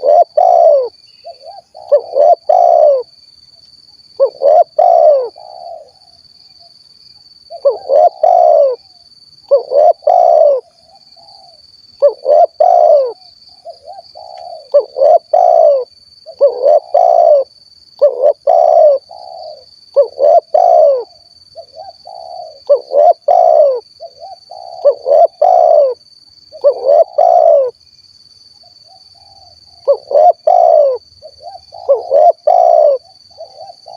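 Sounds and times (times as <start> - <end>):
dove cooing: 0.0 - 3.1, 4.2 - 6.1, 7.5 - 8.9, 9.5 - 27.8, 28.8 - 33.9.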